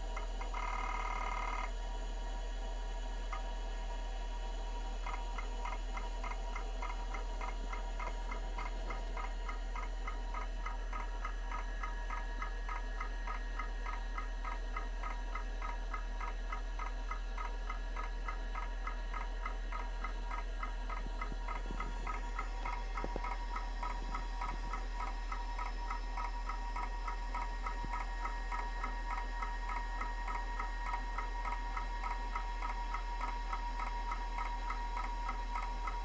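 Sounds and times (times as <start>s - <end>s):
hard drive whine: 0.0s - 36.0s
hard drive heads ticking: 0.2s - 1.7s, 5.0s - 36.0s.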